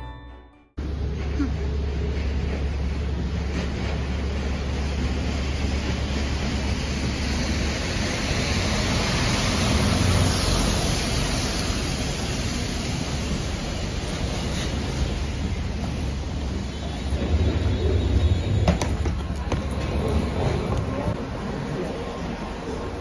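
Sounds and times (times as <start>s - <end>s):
bus engine: 0.8s - 23.0s
tyres on wet street: 0.8s - 23.0s.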